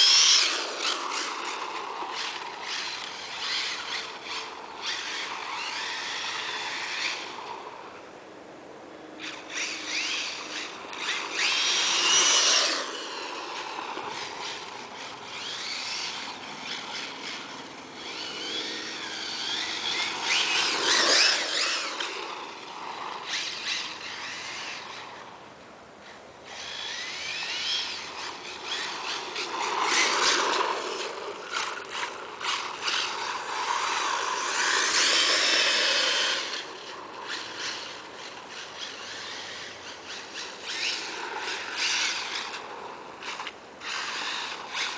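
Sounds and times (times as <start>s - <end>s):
electric motor whining: 0.0s - 7.9s, 9.2s - 25.4s, 26.0s - 44.9s
tyres sliding on asphalt: 0.0s - 8.0s, 9.5s - 25.3s, 26.5s - 44.9s.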